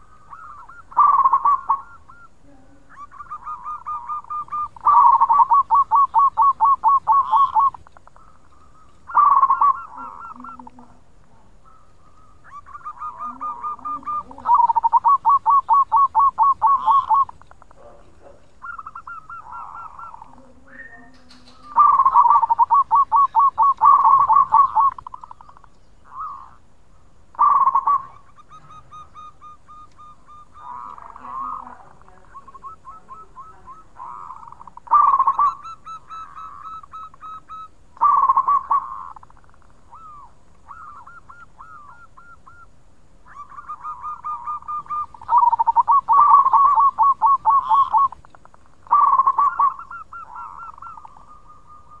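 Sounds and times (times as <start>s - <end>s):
dove cooing: 0.0s - 26.6s, 27.3s - 52.0s.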